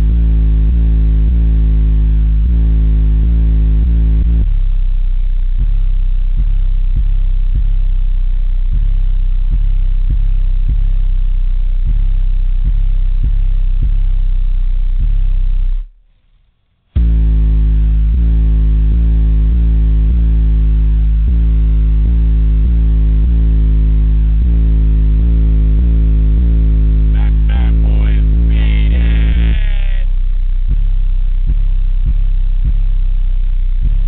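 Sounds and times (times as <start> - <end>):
bass-heavy rap music on subwoofer: 0.0 - 16.0, 17.0 - 34.0.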